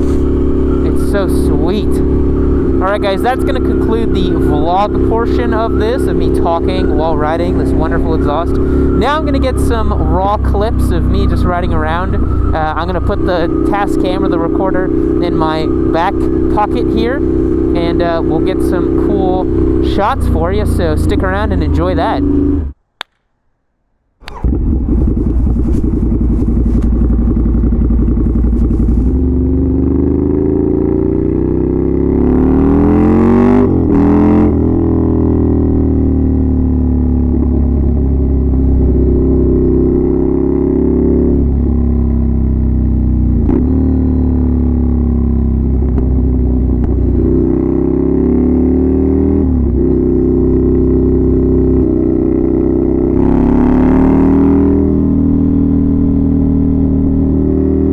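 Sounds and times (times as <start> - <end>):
motorcycle engine through loud exhaust: 0.0 - 22.8, 24.2 - 57.9.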